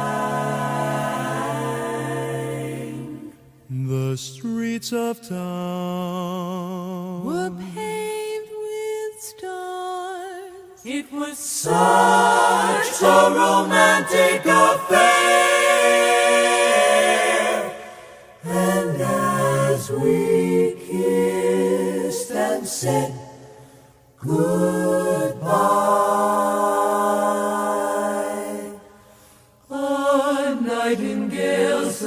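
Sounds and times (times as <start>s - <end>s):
a cappella group singing: 0.0s - 32.0s.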